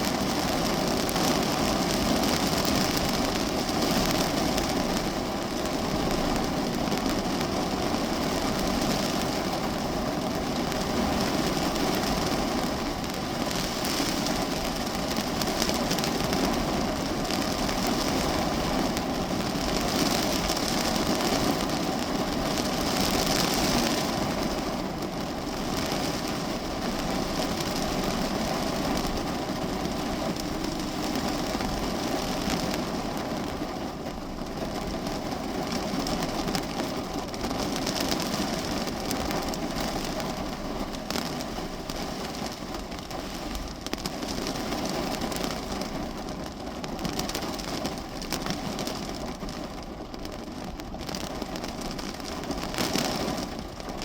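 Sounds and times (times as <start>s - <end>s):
rain on a car body: 0.0s - 54.0s.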